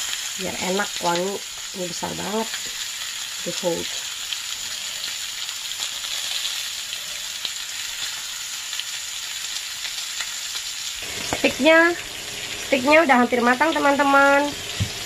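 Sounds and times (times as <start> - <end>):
steak sizzling on grill pan: 0.0 - 15.0.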